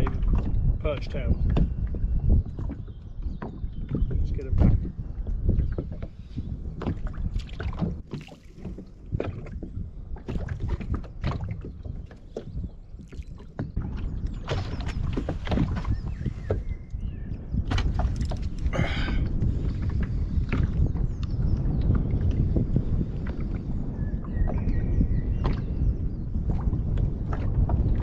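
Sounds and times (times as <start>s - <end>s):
knocks and rattles in plastic boat: 0.0s - 28.0s.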